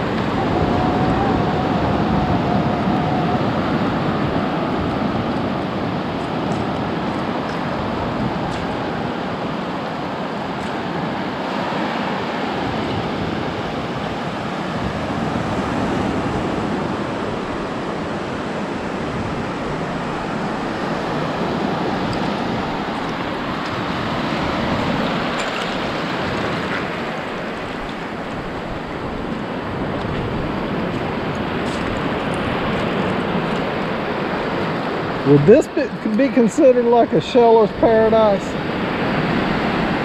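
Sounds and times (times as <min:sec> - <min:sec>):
small surf washing on shore: 0:00.0 - 0:40.0.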